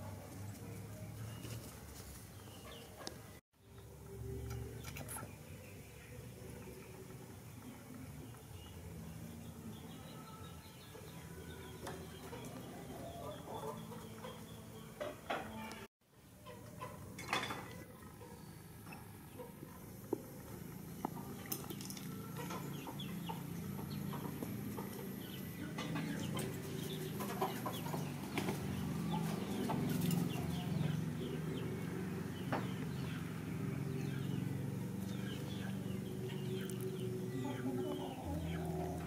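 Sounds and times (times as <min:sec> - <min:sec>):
chickens clucking: 0:00.0 - 0:03.4, 0:04.4 - 0:39.0.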